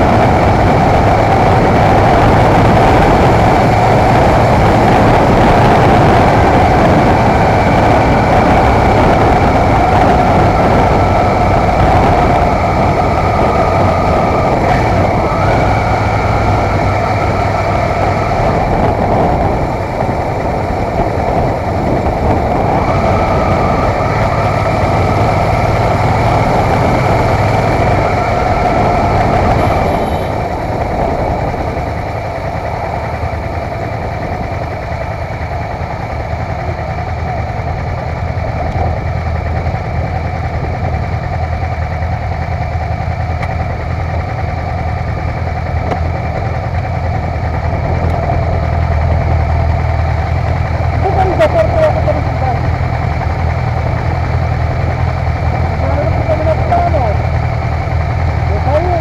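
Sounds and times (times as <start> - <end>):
motorcycle engine running: 0.0 - 59.0
rushing noise: 0.0 - 59.0.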